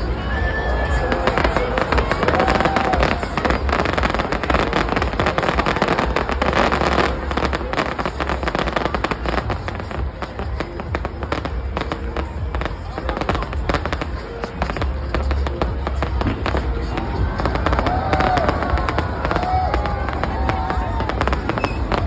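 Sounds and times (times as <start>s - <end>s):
fireworks crackling pops and bangs: 0.0s - 22.0s.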